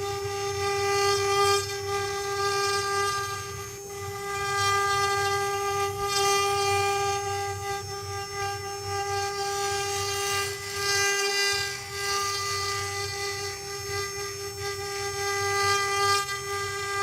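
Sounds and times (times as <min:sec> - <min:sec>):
rough wood cutting noise: 0:00.0 - 0:17.0
router spindle high whine: 0:00.0 - 0:17.0.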